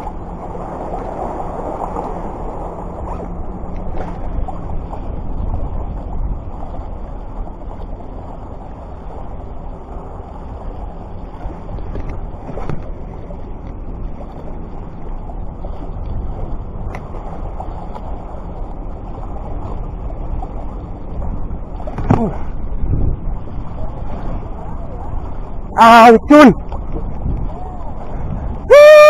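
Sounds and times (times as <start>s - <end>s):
sea wash: 0.0s - 29.0s
wind rumbling on microphone: 0.0s - 29.0s.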